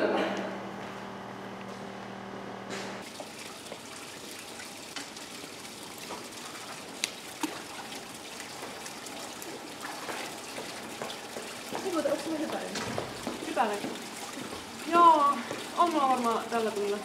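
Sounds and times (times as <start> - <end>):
water trickling in fountain: 3.0 - 17.0.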